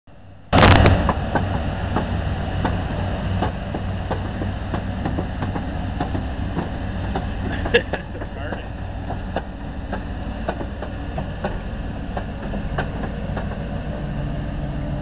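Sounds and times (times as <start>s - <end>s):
diesel engine working under load: 0.1s - 15.0s.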